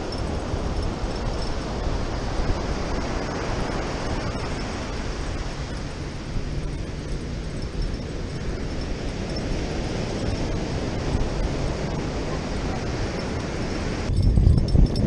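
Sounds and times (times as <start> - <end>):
ocean surf breaking: 0.0 - 14.1
wind rumbling on microphone: 0.0 - 15.0.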